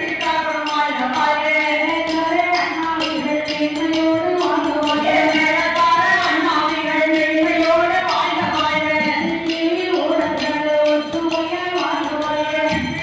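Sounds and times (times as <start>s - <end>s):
brass bells jingling: 0.0s - 13.0s
people singing together: 0.0s - 13.0s.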